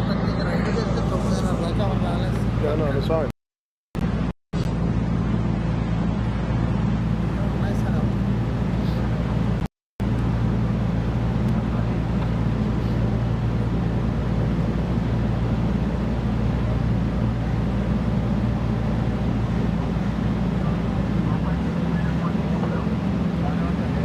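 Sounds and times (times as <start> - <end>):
boat engine droning: 0.0 - 3.3, 4.0 - 24.0.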